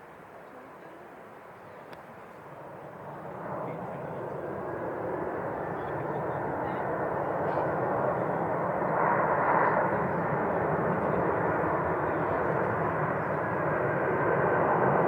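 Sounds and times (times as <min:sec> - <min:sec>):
airliner jet noise: 0:02.2 - 0:15.0.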